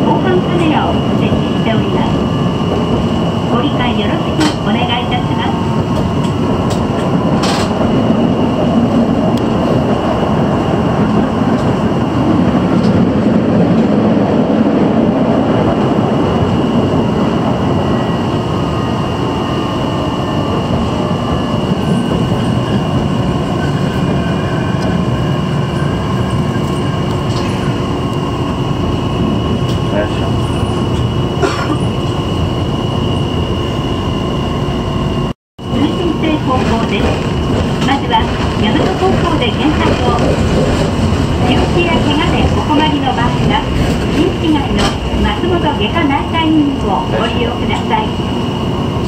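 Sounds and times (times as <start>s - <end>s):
tram wheels rumbling: 0.0s - 49.0s.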